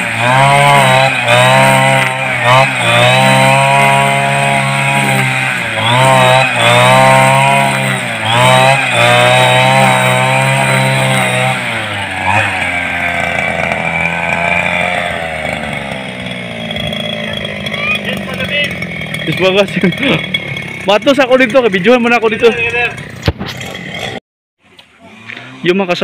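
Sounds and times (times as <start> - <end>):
brush cutter engine cutting grass: 0.0 - 26.0.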